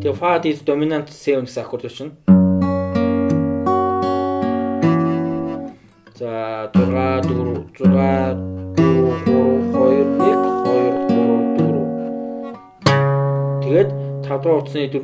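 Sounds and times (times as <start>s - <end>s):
acoustic guitar picking: 0.0s - 0.5s, 2.2s - 15.0s.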